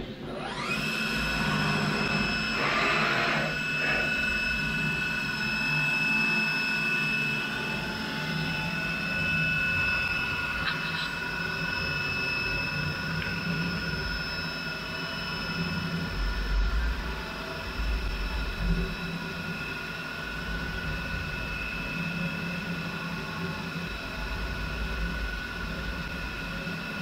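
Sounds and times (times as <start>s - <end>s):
machine spindle whine: 0.0s - 27.0s.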